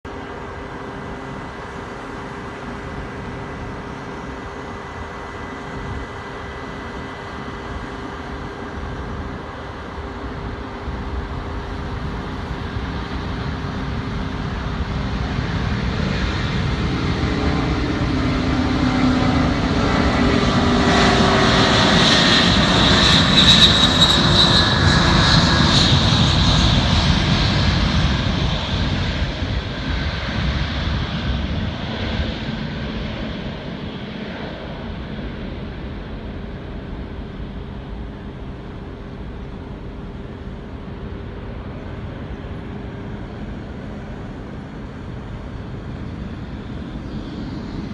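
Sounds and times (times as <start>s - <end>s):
jet engines passing by: 0.1s - 47.9s.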